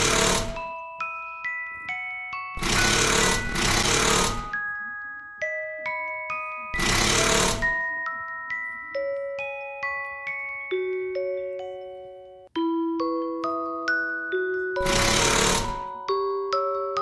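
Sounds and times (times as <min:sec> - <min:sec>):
bell-like background music: 0:00.0 - 0:17.0.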